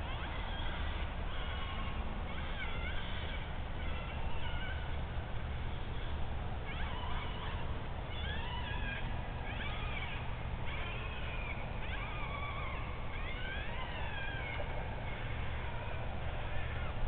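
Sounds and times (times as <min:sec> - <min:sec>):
animal distress cries from caller: 0:00.0 - 0:17.0
steady low hum: 0:00.0 - 0:17.0.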